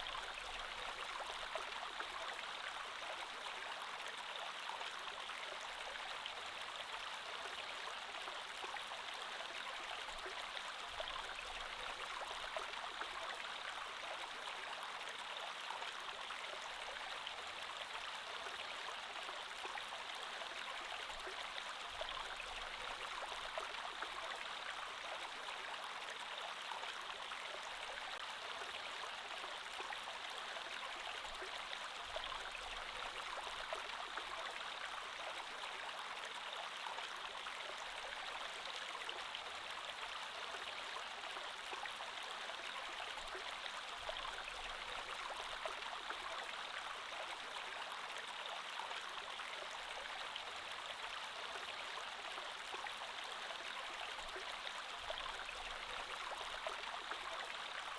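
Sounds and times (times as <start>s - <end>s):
creek water flowing over stones: 0.0s - 57.9s.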